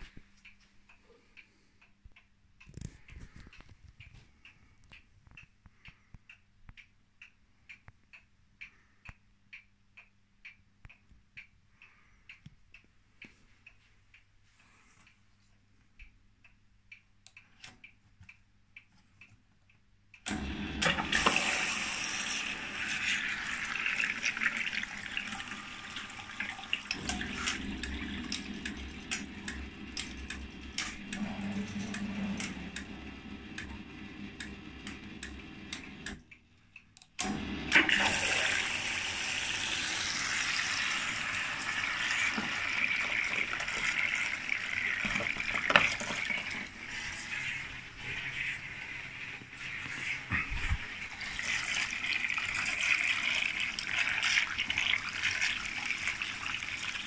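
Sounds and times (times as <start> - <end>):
washing machine ticking: 0.0 - 57.0.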